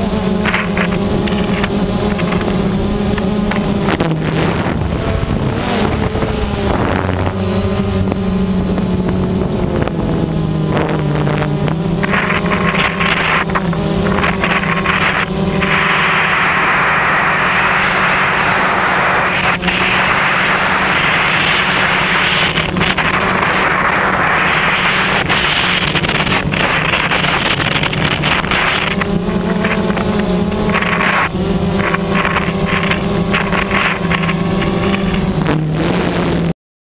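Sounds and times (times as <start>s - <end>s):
drone motors humming: 0.0s - 36.5s
wind rushing on microphone: 0.0s - 36.5s.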